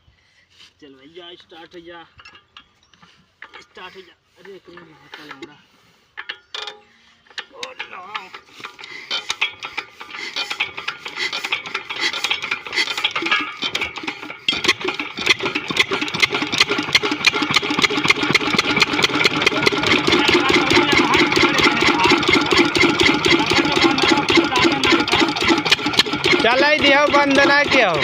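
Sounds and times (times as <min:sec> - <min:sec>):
engine starting and running: 0:03.4 - 0:28.0.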